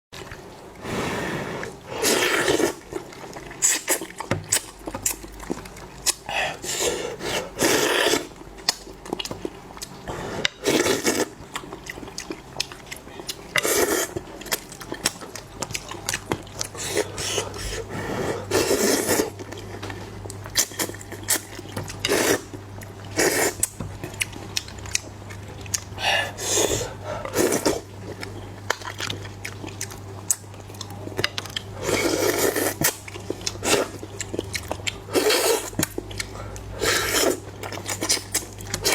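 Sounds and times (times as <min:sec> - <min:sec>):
person chewing and slurping: 0:00.7 - 0:38.9.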